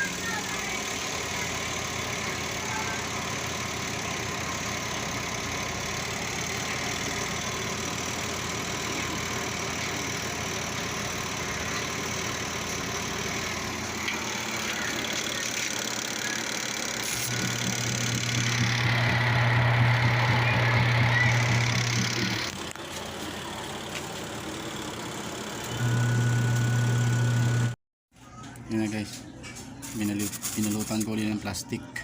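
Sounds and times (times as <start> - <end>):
motor idling: 0.0 - 27.8.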